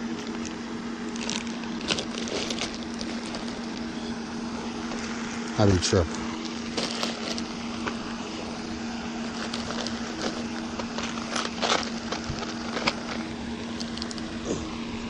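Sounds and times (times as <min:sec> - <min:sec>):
motor hum: 0:00.0 - 0:15.0
noisy background: 0:00.0 - 0:15.0.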